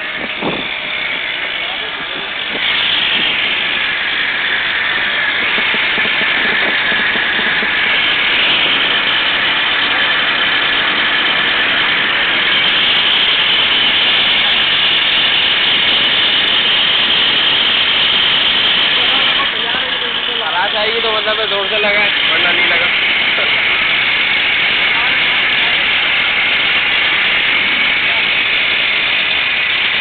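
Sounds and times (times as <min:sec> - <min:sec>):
machine running with high whine: 0:00.0 - 0:30.0.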